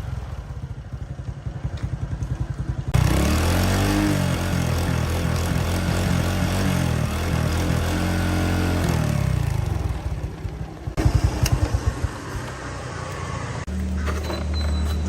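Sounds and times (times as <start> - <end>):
motorbike engine idling: 0.0 - 14.1.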